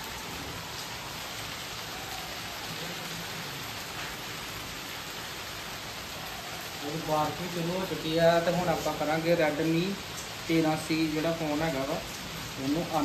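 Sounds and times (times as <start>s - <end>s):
steady rain on wet pavement: 0.0s - 13.0s.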